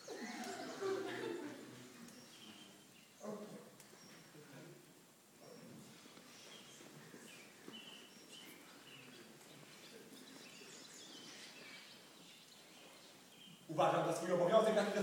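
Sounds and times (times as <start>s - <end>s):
faint bird chirping: 0.0s - 14.8s.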